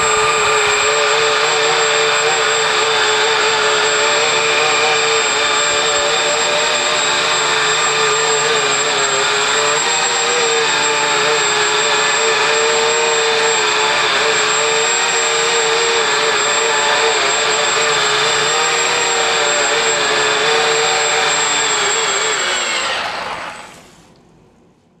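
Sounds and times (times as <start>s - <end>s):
toy helicopter rotor humming: 0.0s - 23.9s
thin high motor whine: 0.0s - 24.1s.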